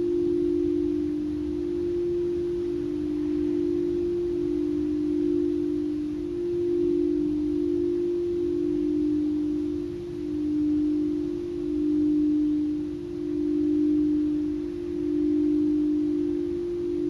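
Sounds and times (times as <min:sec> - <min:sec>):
singing bowl tone: 0:00.0 - 0:17.0.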